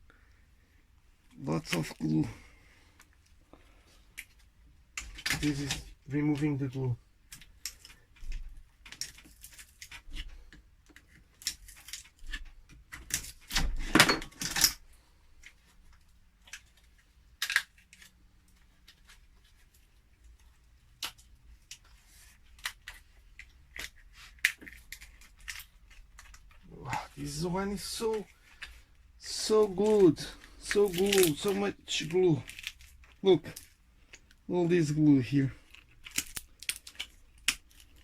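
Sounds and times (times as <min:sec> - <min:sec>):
plastic crackles: 0:01.2 - 0:38.0.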